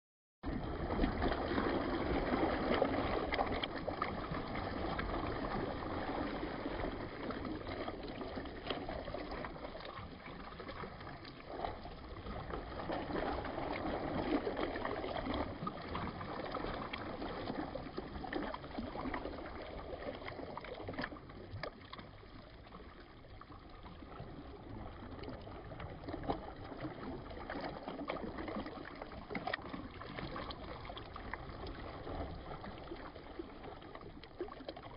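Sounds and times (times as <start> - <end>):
water gurgling and splashing: 0.4 - 34.9.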